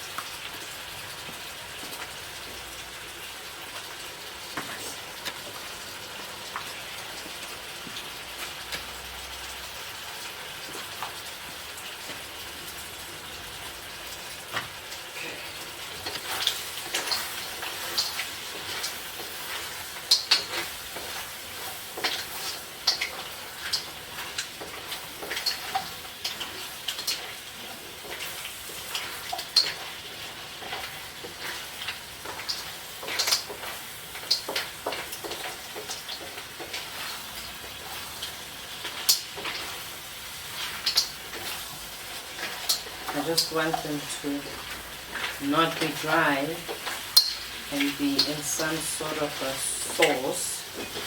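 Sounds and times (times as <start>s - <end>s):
seafood sizzling in a pan: 0.0s - 51.0s.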